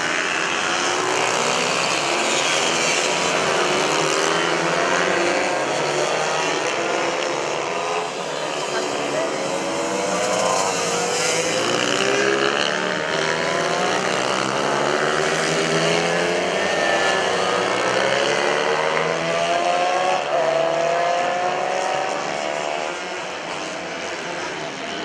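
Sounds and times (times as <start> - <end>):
mini bike engines revving: 0.0 - 25.0.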